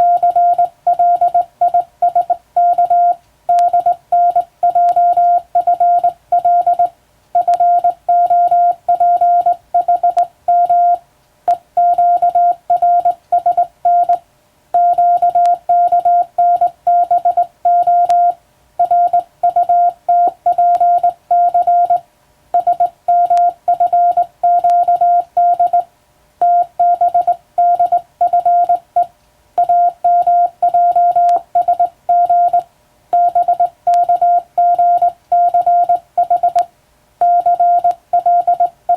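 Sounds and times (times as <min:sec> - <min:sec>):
morse code tone: 0:00.0 - 0:14.2, 0:14.8 - 0:22.0, 0:22.6 - 0:32.6, 0:33.2 - 0:36.6, 0:37.2 - 0:38.9.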